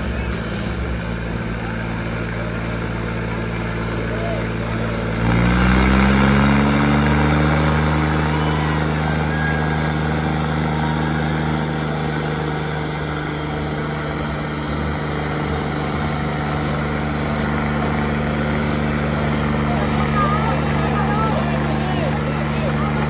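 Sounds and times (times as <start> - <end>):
tractor diesel engine straining: 0.0 - 23.0.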